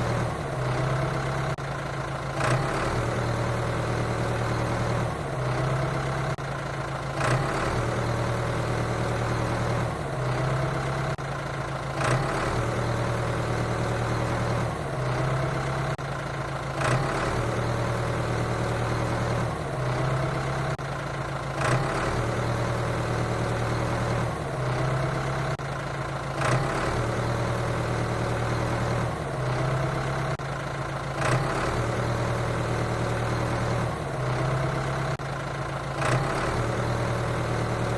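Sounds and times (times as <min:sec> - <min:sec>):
heavy machinery engine idling: 0:00.0 - 0:37.9.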